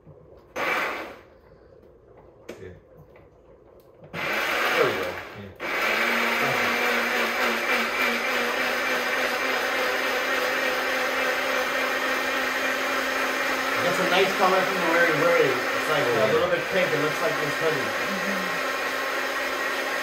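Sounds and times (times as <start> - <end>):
blender motor running: 0.5 - 1.3, 4.1 - 20.0.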